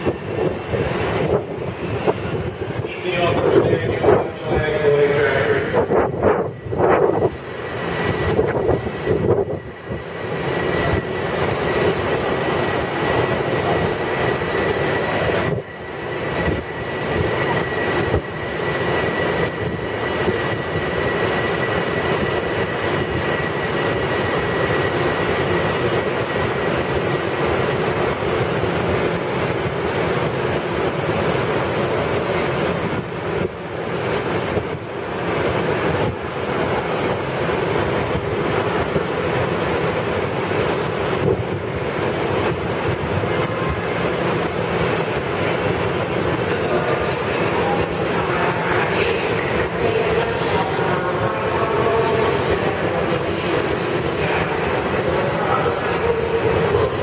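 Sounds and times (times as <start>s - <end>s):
train wheel-on-rail running noise: 0.0s - 57.0s.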